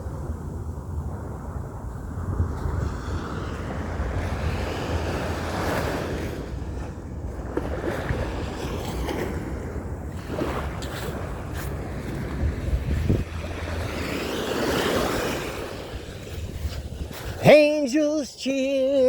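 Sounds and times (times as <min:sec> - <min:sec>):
steady rushing noise: 0:00.0 - 0:17.7
wind rumble on microphone: 0:00.0 - 0:19.0.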